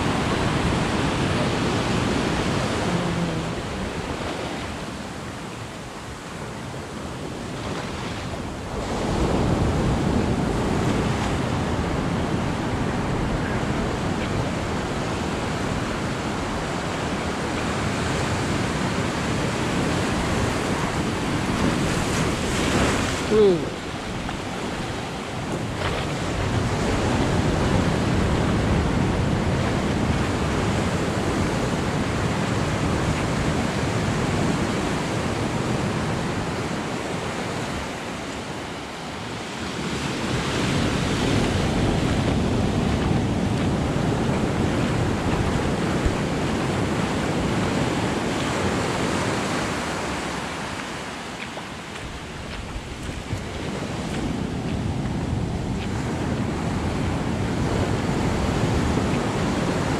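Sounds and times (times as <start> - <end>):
ocean surf washing over sand: 0.0 - 59.9.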